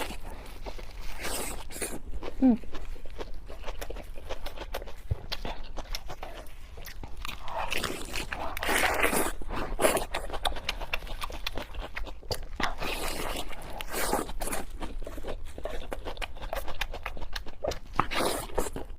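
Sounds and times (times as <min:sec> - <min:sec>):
wet chewing mouth sounds: 0:00.0 - 0:18.9.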